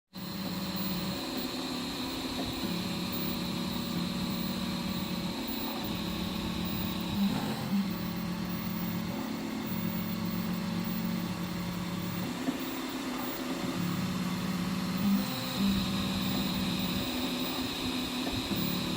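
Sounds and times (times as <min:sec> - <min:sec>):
stepper motors whining: 0:00.2 - 0:18.9.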